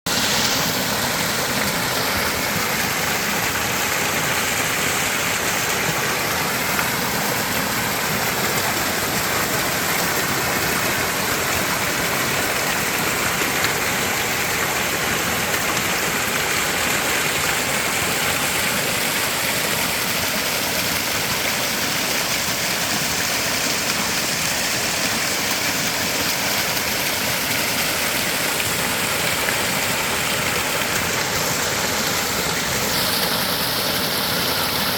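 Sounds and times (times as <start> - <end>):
stream flowing: 0.1 - 34.9.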